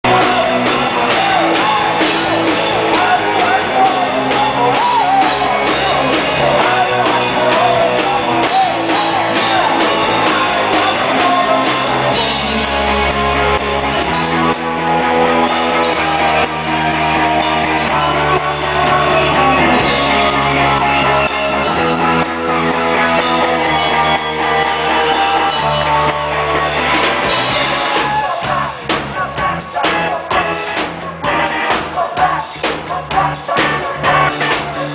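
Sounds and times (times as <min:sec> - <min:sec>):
person singing: 0:00.0 - 0:34.9
rock band playing live: 0:00.0 - 0:34.9.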